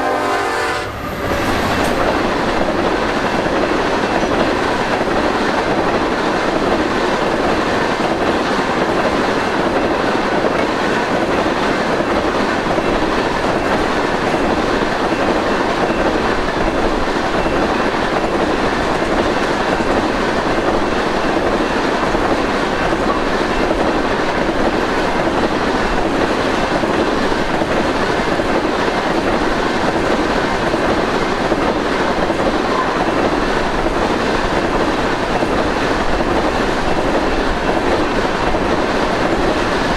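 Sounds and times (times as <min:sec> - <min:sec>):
train wheels rushing on rail: 0:00.0 - 0:39.9.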